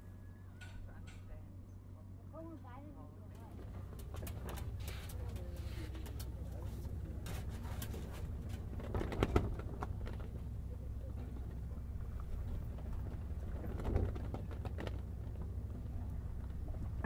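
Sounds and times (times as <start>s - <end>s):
steady low drone: 0.0s - 17.0s.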